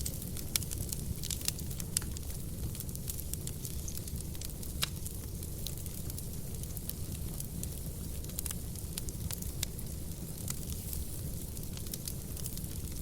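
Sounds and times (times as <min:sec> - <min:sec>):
fire crackles and pops: 0:00.0 - 0:13.0
fireplace fire rumble and hiss: 0:00.0 - 0:13.0.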